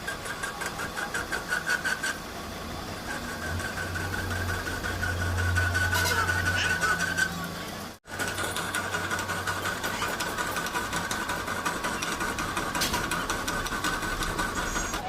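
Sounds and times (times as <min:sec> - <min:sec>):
machine clattering and whining: 0:00.0 - 0:15.0.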